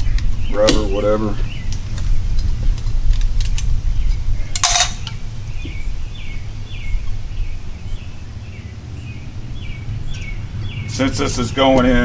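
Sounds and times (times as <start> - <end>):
bird chirping: 0.0 - 2.3, 3.6 - 12.0
low rumble: 1.2 - 10.9.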